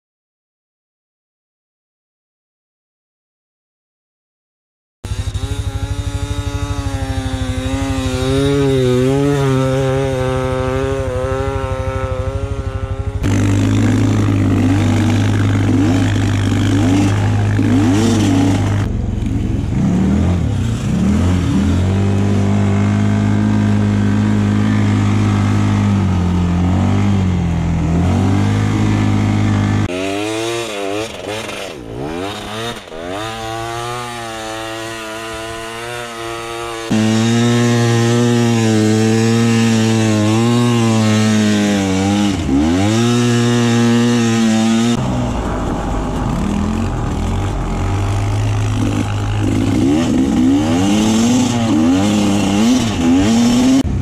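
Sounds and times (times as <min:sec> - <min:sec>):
dirt bike engine revving: 0:05.0 - 0:54.0.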